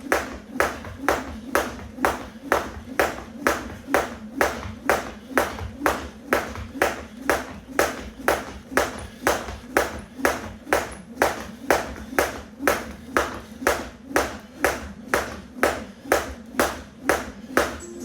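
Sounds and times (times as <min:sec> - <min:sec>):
jump rope slapping floor: 0:00.0 - 0:17.8.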